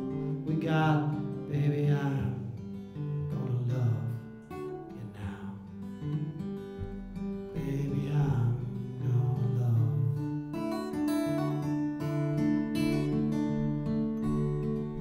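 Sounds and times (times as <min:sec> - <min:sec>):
acoustic guitar blues: 0:00.0 - 0:15.0.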